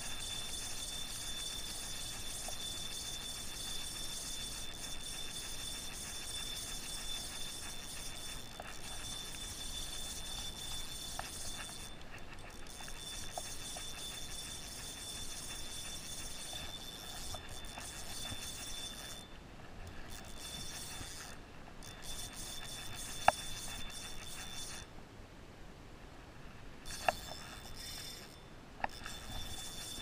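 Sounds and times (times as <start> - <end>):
fishing reel ratcheting whir: 0.0 - 19.3, 19.9 - 24.9, 26.8 - 30.0.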